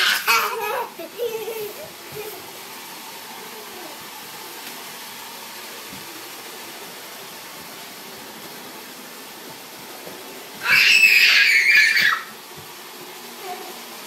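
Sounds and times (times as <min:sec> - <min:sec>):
robot vacuum running: 0:00.0 - 0:14.0.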